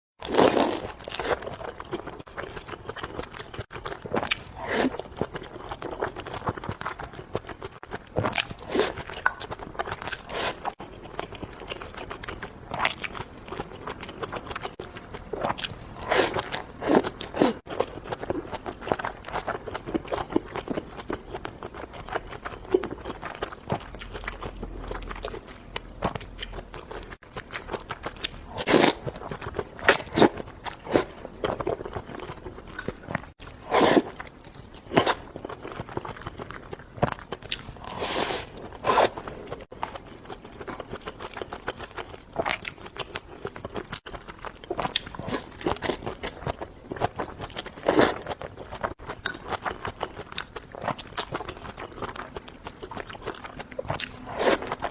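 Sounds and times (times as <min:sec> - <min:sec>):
person chewing crunchy food: 0:00.2 - 0:54.9.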